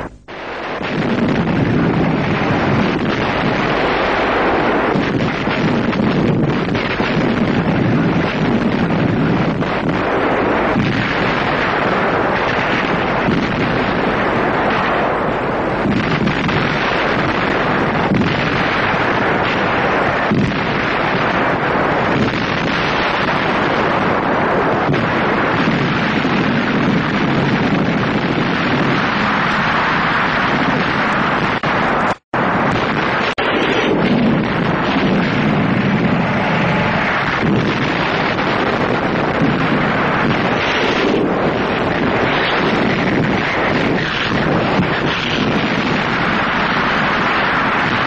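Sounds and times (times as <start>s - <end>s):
explosions: 0.0s - 48.0s
gunfire: 0.0s - 48.0s.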